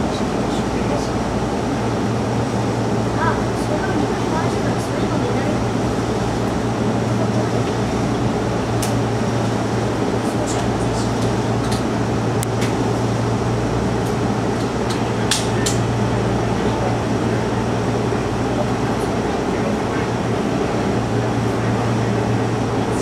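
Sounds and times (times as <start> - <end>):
electric train equipment humming: 0.0 - 23.0.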